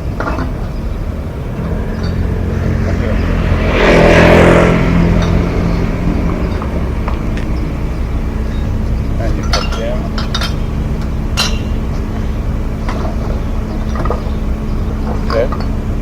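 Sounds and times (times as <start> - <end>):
steady low rumble: 0.0 - 16.0
vehicle passing by: 0.0 - 16.0.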